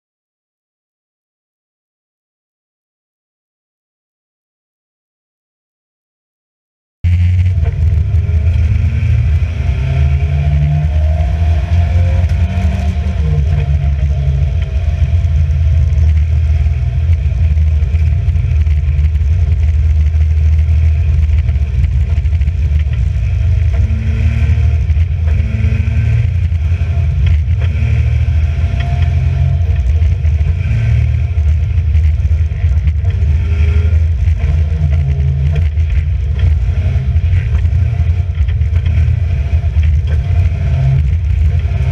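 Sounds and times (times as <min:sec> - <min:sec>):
race car engine running hard: 0:07.1 - 0:41.9.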